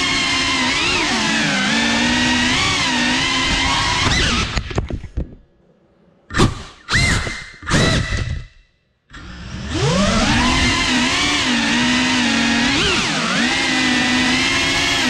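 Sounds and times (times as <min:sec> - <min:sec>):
drone motors whining: 0:00.0 - 0:04.8, 0:06.9 - 0:15.0.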